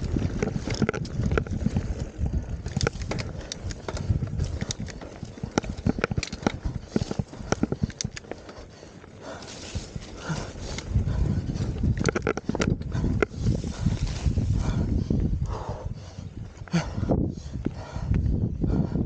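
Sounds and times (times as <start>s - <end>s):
mountain bike clattering: 0.0s - 15.7s
low wind rumble: 0.0s - 19.0s.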